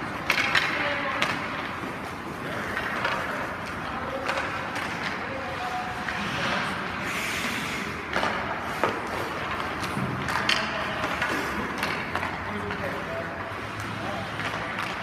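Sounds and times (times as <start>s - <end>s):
skate blades scraping ice: 0.0s - 15.0s.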